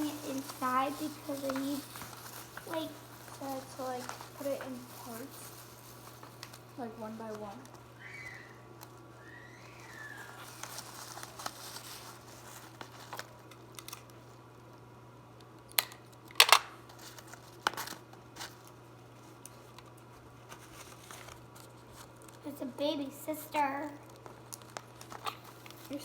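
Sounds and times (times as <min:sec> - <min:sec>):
paper crinkling and rustling: 0:00.0 - 0:14.4, 0:16.8 - 0:26.0
sharp paper crackles: 0:00.0 - 0:14.4, 0:16.9 - 0:26.0.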